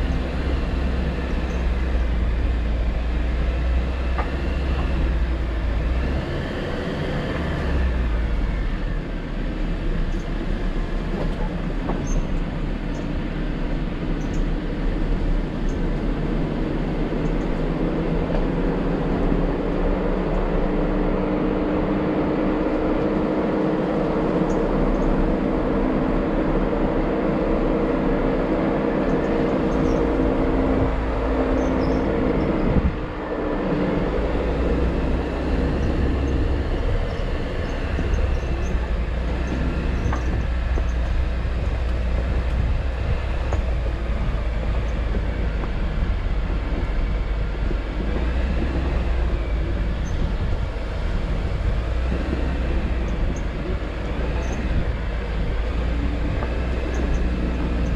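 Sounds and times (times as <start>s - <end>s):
car engine droning: 0.0s - 57.9s.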